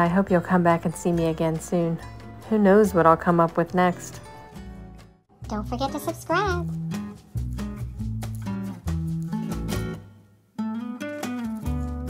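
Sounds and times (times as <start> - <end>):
plucked guitar music: 0.7 - 12.0.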